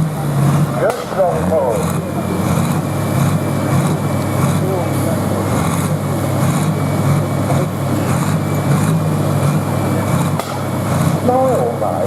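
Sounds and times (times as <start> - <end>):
diesel tractor engine droning: 0.0 - 12.0.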